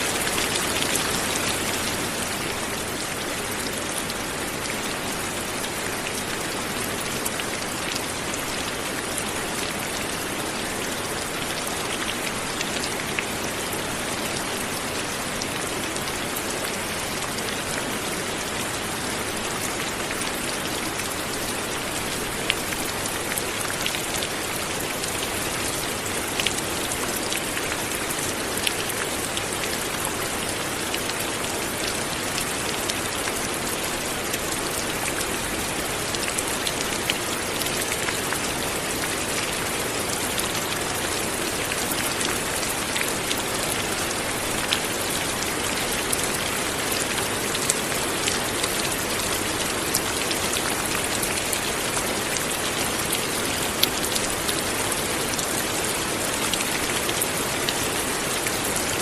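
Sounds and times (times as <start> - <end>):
light rain hiss: 0.0 - 59.0.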